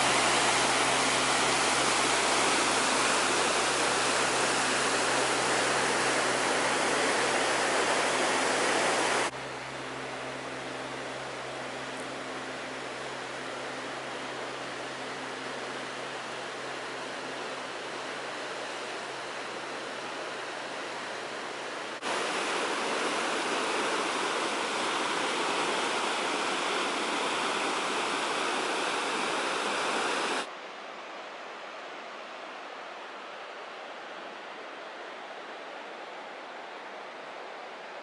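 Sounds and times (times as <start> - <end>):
river water rushing over rapids: 0.0 - 38.0.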